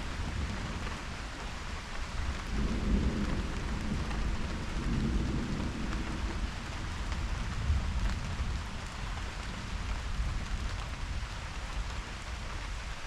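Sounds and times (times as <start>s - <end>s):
low rumble of thunder: 0.0s - 11.9s
steady rain: 0.0s - 13.0s.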